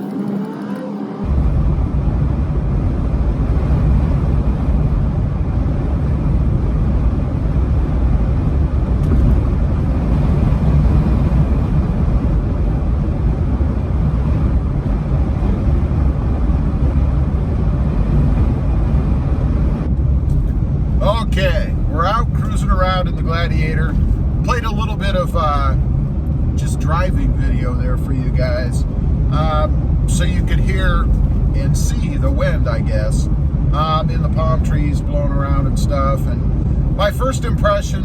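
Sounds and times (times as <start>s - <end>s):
gusty wind: 0.0s - 38.0s
road and engine rumble: 0.0s - 38.0s.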